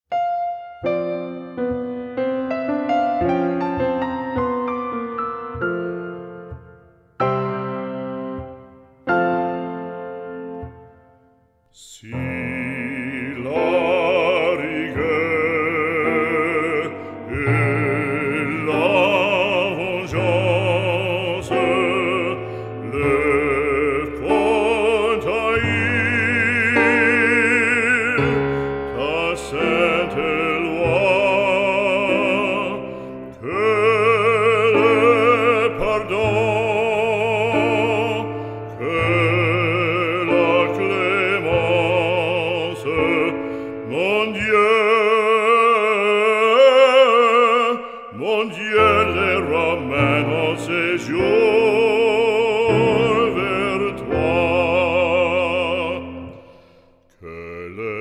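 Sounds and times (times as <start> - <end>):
instrumental accompaniment: 0.1 - 46.6
operatic singing: 0.8 - 58.0.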